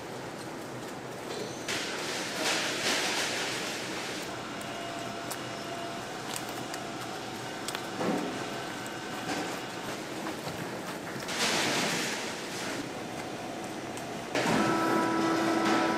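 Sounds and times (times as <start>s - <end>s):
ventilation and machinery running: 0.0s - 15.9s.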